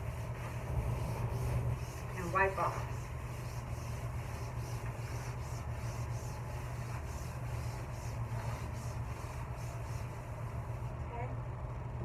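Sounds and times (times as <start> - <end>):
wipe swishing over plastic sheet: 0.0 - 10.9
steady low hum: 0.0 - 12.0.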